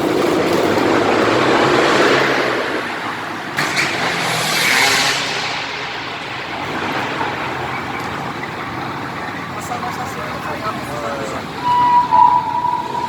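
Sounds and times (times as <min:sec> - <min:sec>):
motocross bike engines: 0:00.0 - 0:13.0.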